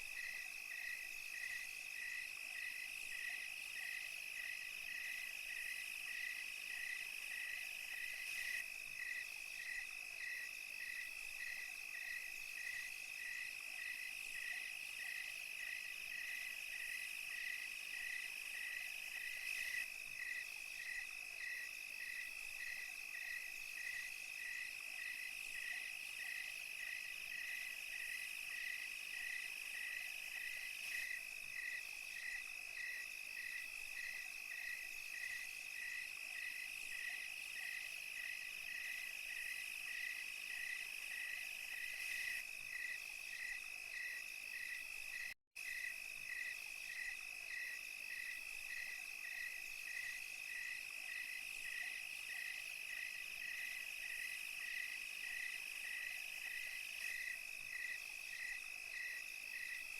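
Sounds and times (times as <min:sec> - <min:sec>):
cricket chirping: 0:00.0 - 0:59.9
crickets trilling: 0:00.0 - 0:59.9.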